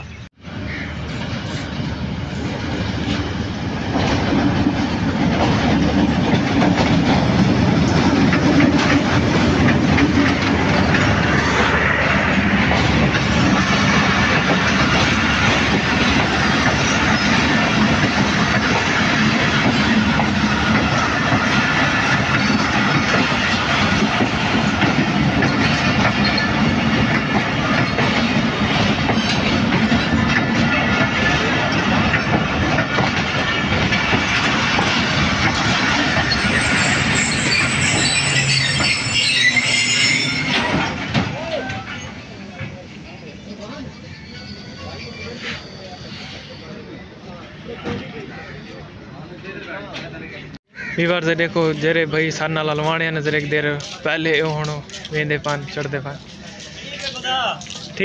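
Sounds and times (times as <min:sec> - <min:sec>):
train rolling past on rails: 0:00.2 - 0:58.0.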